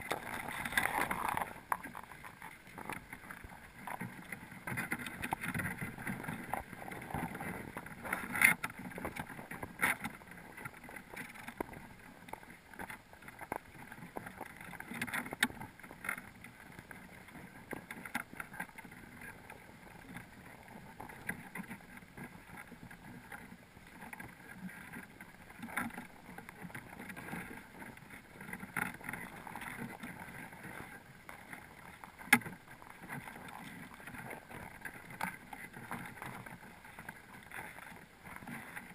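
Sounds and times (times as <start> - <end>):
crabs clicking and knocking: 0.0 - 38.9.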